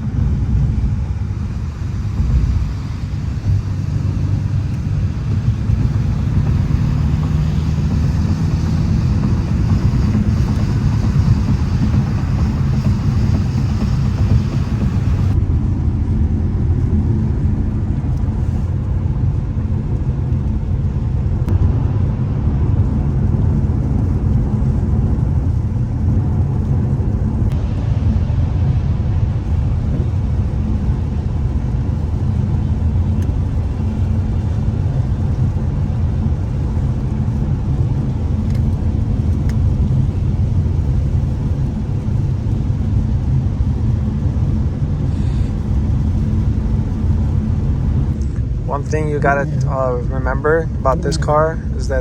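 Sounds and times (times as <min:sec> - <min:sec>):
car engine droning: 0:00.0 - 0:52.0
road noise: 0:00.0 - 0:52.0.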